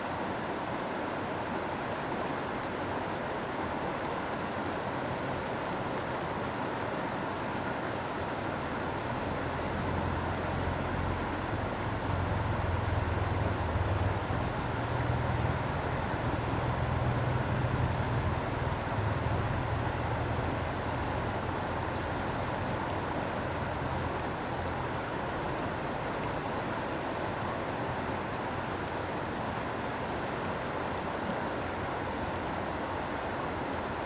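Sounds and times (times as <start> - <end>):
river flowing: 0.0 - 34.0.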